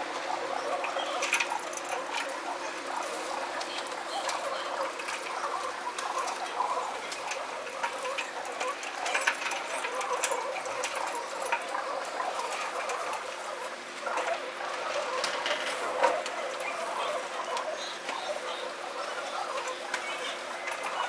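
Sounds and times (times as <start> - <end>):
pigeons pecking taps and clicks: 0.7 - 13.5, 14.2 - 21.0.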